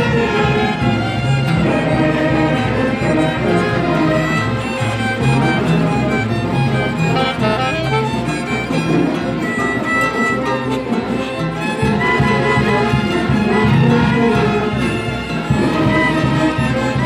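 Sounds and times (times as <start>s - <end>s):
pulsing bass: 0.0s - 17.0s
violins playing melody: 0.0s - 17.0s.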